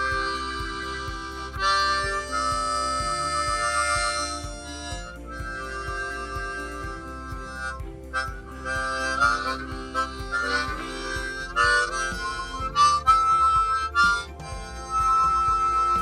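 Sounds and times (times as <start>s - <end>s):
harmonica playing a tune: 0.0s - 16.0s.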